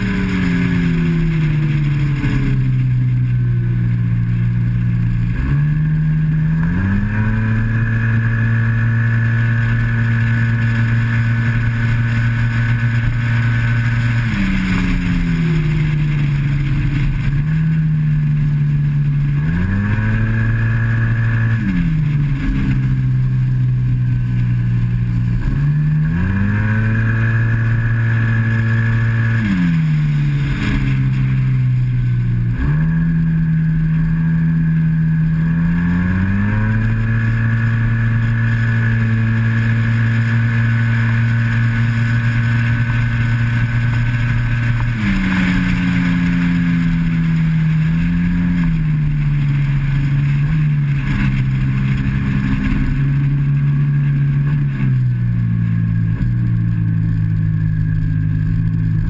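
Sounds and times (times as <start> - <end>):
scooter engine revving: 0.0 - 59.0.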